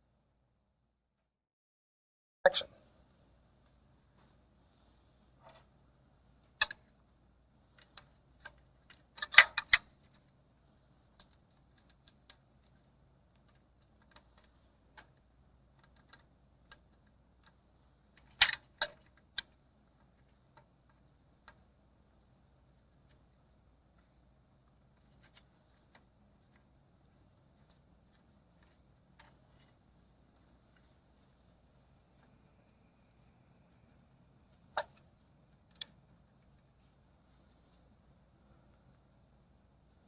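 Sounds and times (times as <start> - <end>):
faint low hum: 2.5 - 40.0.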